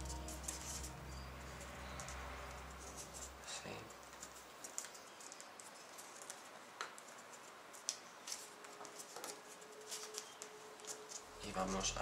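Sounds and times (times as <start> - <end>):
paper crackling as it is folded: 2.0 - 12.0.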